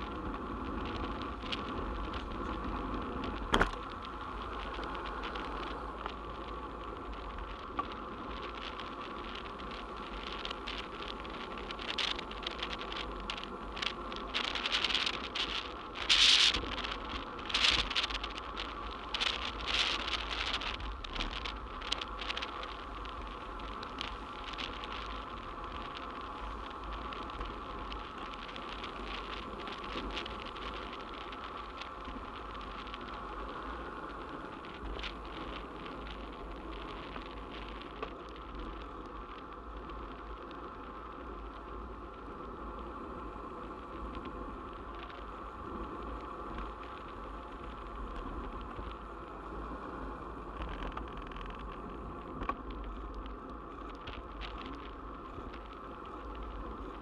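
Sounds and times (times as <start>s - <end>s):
wind and tyre hiss: 0.0s - 57.0s.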